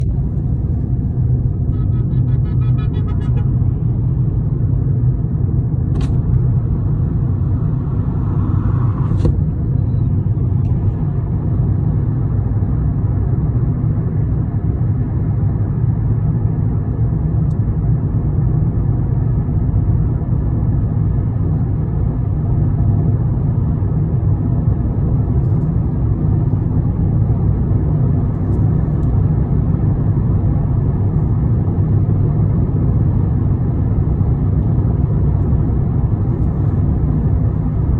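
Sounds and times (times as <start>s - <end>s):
vehicle rumble from inside: 0.0s - 37.9s.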